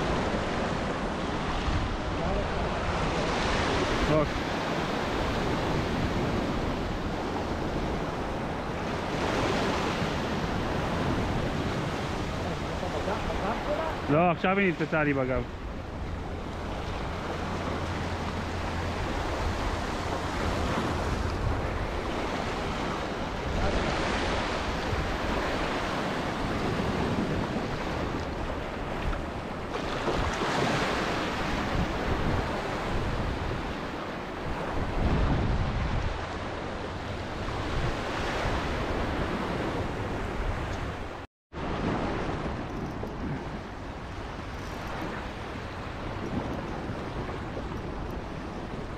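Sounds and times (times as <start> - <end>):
sea waves breaking over rocks: 0.0 - 48.9.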